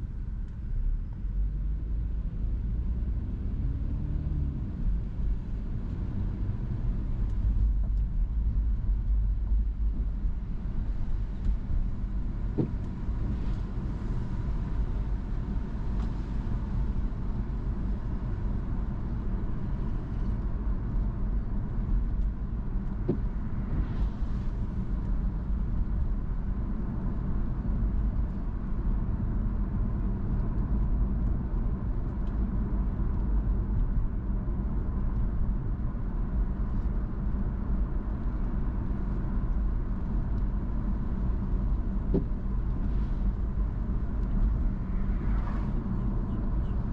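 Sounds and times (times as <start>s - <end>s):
car engine and tyre road noise: 0.0s - 46.9s.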